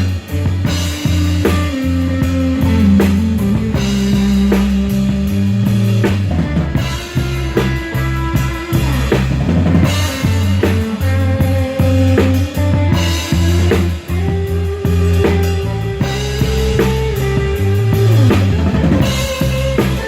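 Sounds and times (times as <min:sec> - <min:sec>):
drum kit: 0:00.0 - 0:20.0
electric bass: 0:00.0 - 0:20.0
electric guitar: 0:00.0 - 0:20.0.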